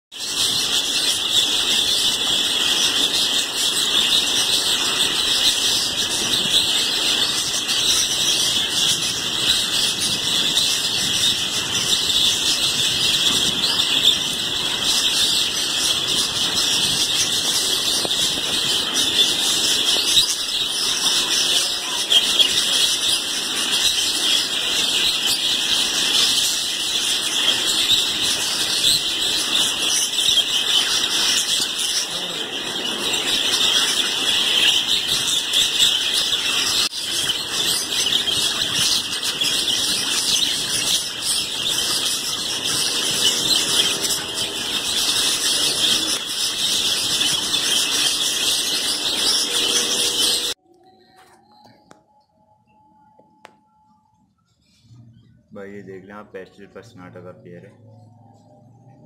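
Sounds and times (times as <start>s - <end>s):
budgerigars chirping: 0.2s - 50.6s.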